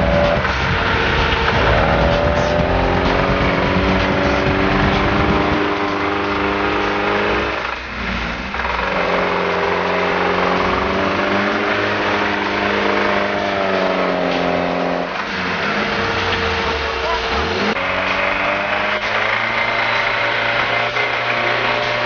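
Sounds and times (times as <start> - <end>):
engine running under load: 0.0 - 22.0.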